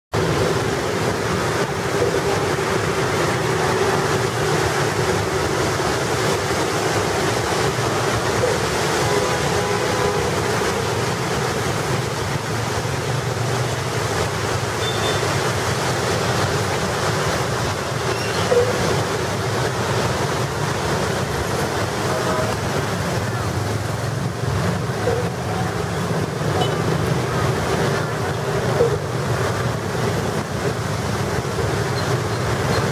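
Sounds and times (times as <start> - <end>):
rain on road: 0.1 - 32.9
slow city traffic hum: 0.1 - 32.9.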